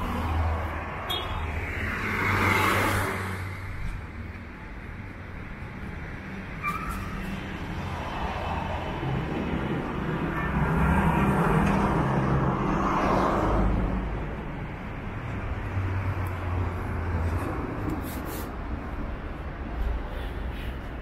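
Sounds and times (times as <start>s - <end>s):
street noise: 0.0s - 21.0s.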